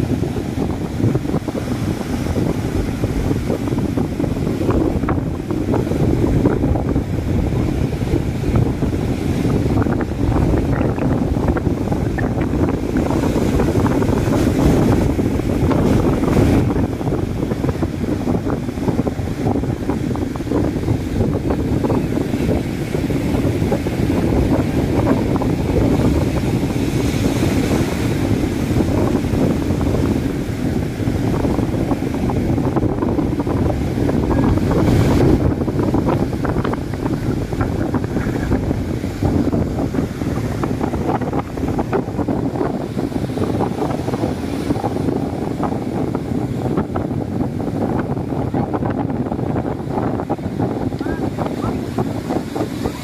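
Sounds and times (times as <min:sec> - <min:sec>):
waves breaking on shore: 0:00.0 - 0:53.0
wind buffeting microphone: 0:00.0 - 0:53.0.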